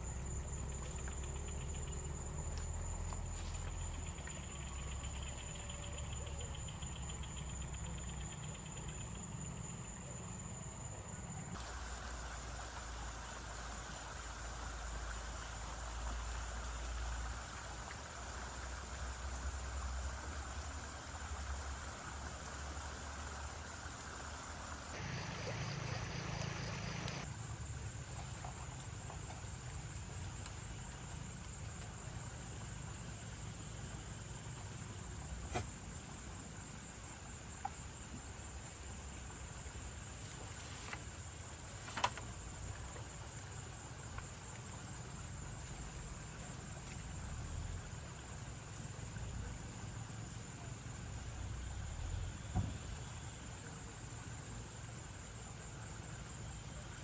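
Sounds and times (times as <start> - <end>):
crickets and insects chirring: 0.0 - 57.0.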